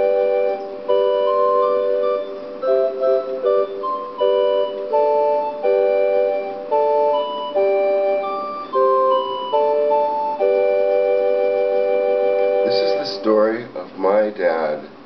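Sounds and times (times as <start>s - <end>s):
keyboard playing slow chords: 0.0s - 13.8s.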